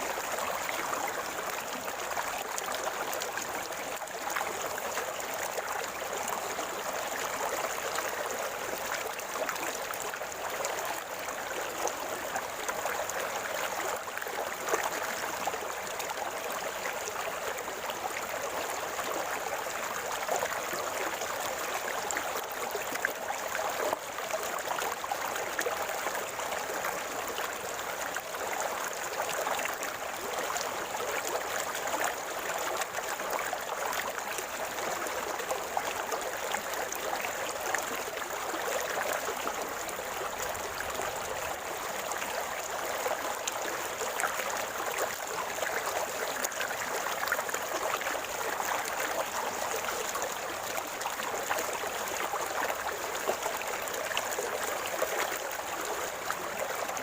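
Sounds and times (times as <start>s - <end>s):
river water gurgling over stones: 0.0s - 57.0s.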